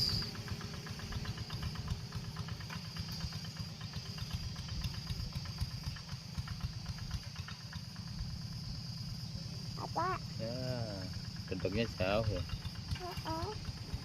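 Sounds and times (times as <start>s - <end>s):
diesel engine chugging: 0.0s - 14.0s.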